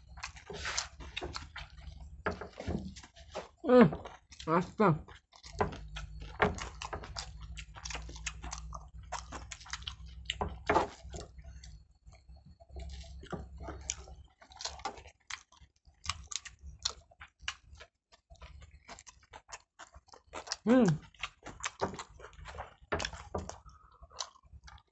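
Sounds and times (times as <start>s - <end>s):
chewing and lip-smacking: 0.0s - 24.9s.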